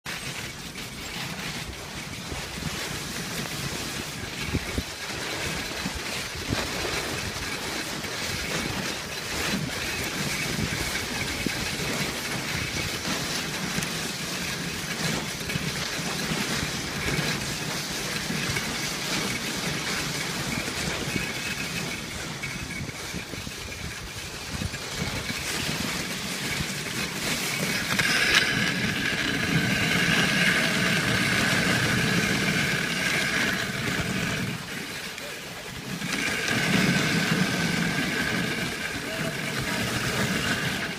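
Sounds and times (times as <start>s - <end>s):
sled knocks and bumps: 0.0s - 40.9s
sled runners hissing on snow: 0.1s - 40.9s.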